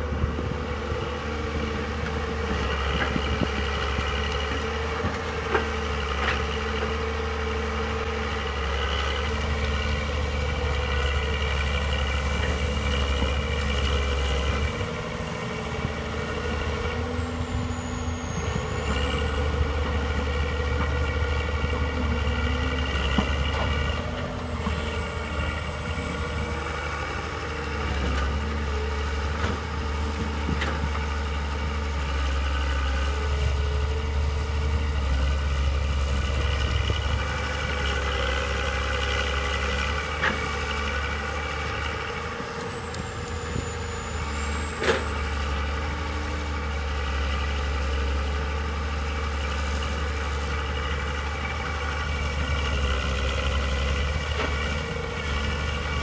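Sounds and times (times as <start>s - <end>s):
excavator engine drone and whine: 0.0s - 56.0s.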